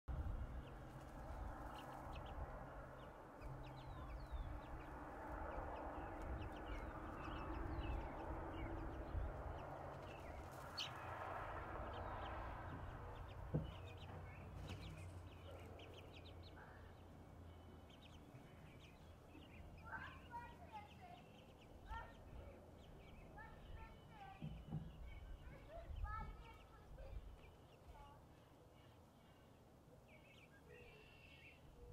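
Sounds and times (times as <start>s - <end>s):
chicks peeping: 0.1s - 27.9s.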